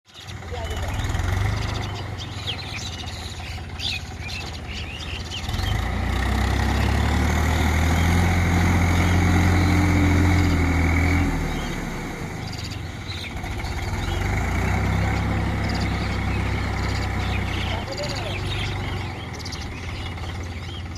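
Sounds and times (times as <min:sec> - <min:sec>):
tractor diesel engine running: 0:00.1 - 0:20.9.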